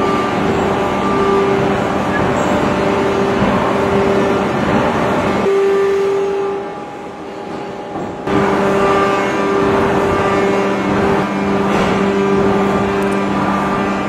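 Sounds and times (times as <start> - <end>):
forging press machine whine: 0.0 - 14.0
noisy machine hum: 0.0 - 14.0.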